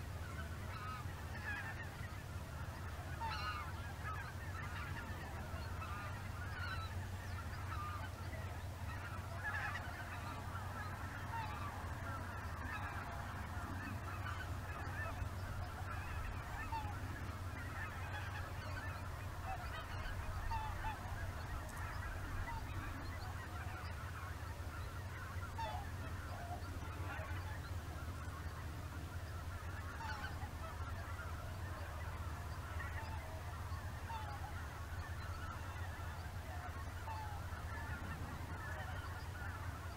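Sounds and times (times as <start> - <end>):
geese calling: 0.0 - 39.9.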